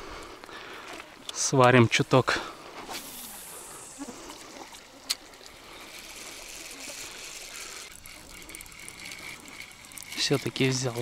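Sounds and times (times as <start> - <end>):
river water trickling over pebbles: 0.2 - 11.0.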